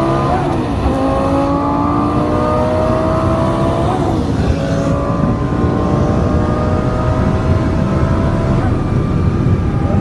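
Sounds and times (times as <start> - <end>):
car engine at full throttle: 0.0 - 10.0.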